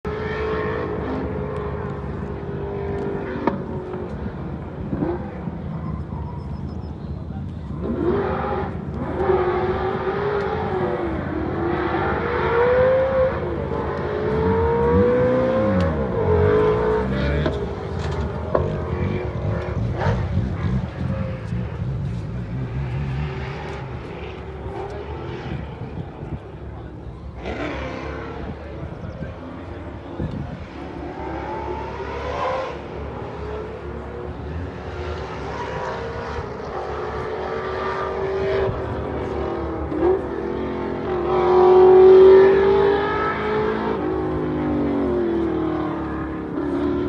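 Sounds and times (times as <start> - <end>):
car engine running hard: 0.1 - 47.0.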